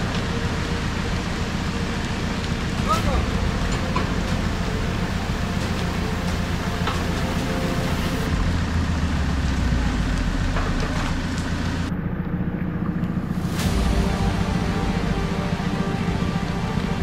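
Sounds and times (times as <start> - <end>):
heavy rain hissing: 0.0 - 10.5, 13.3 - 17.0
diesel engine running: 0.0 - 17.0.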